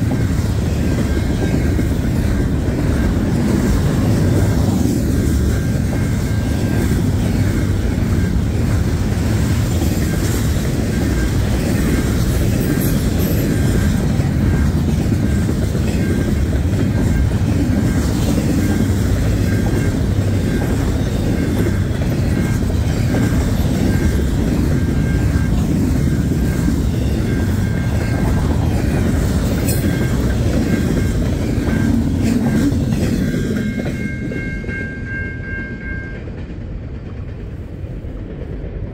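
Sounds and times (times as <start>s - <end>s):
crossing warning bell ringing: 0.0s - 36.6s
train wheels rumbling on rails: 0.0s - 38.9s.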